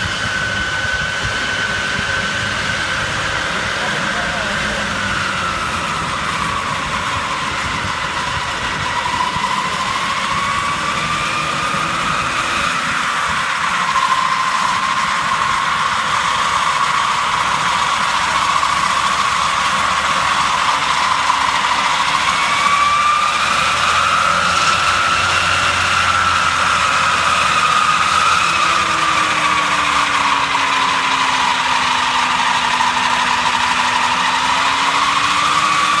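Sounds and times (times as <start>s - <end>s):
mower mechanical whine: 0.0s - 36.0s
tractor engine running: 0.0s - 36.0s.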